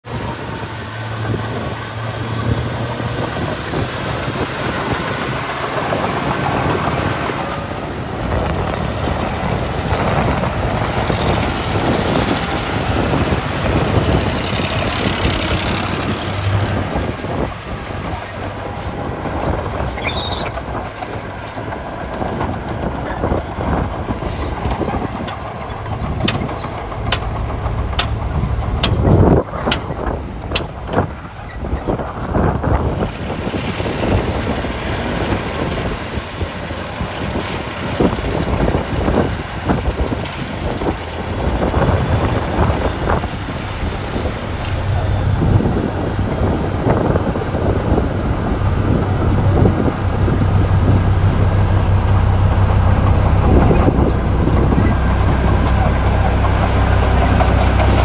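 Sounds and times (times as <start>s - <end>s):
diesel engine running: 0.1s - 58.0s.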